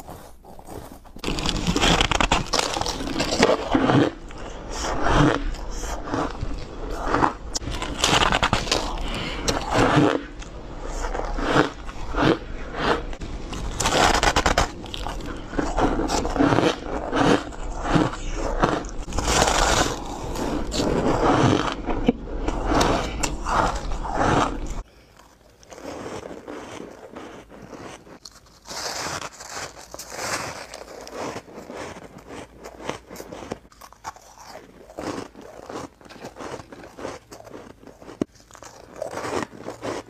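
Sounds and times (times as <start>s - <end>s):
crunchy ice chewing: 0.0s - 40.0s.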